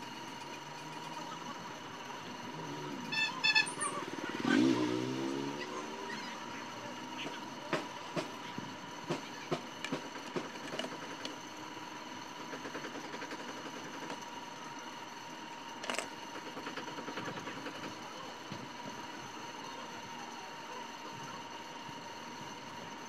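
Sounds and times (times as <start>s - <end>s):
fast mechanical chatter: 0.0s - 23.0s
high-pitched background hum: 0.0s - 23.0s.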